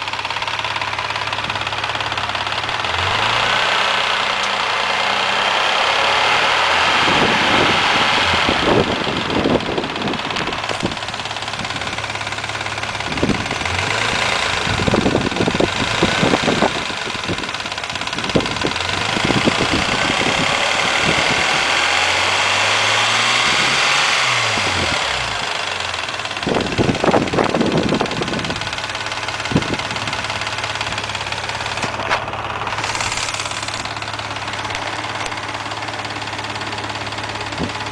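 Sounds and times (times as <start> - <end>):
car engine running with knock: 0.0 - 37.9.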